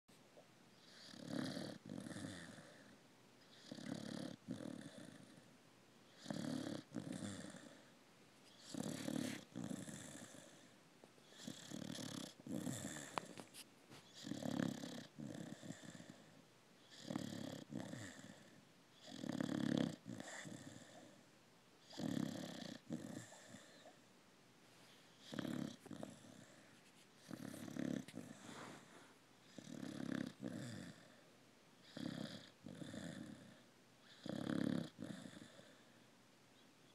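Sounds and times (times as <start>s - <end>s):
rhythmic snoring: 0.8s - 5.5s, 6.1s - 7.9s, 8.6s - 21.2s, 21.8s - 24.0s, 25.2s - 36.0s.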